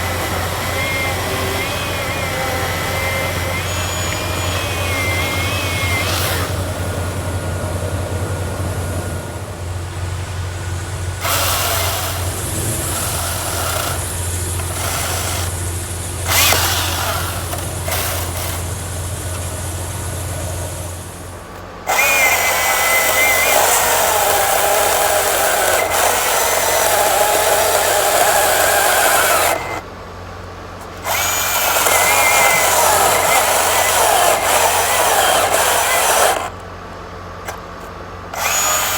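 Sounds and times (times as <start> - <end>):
chainsaw cutting: 0.0 - 8.0, 10.8 - 29.9, 30.9 - 36.6, 38.3 - 38.9.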